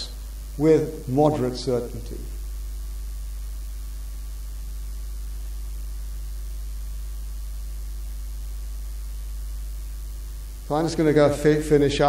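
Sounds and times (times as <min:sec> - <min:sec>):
electrical mains hum: 0:00.0 - 0:12.0
faint hiss: 0:00.0 - 0:12.0.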